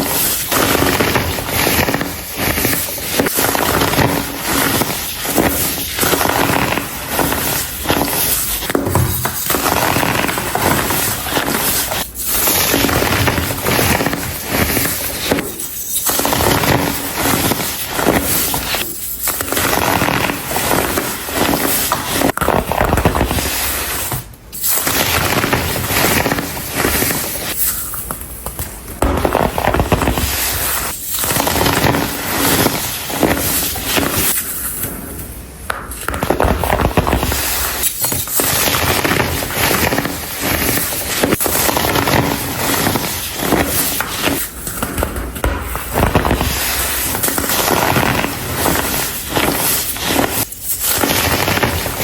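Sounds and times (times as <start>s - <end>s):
baking soda crunching by hand: 0.0s - 34.7s, 36.1s - 52.0s.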